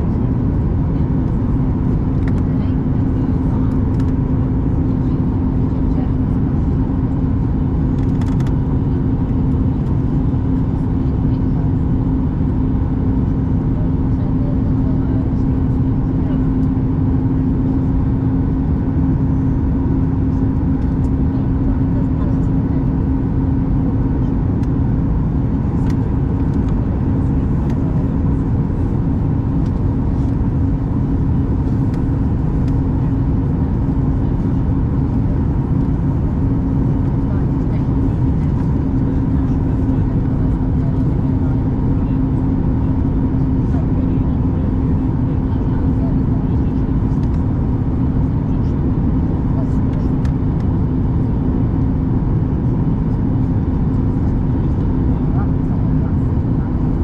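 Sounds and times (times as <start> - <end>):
airplane cabin rumble and hum: 0.0 - 57.0.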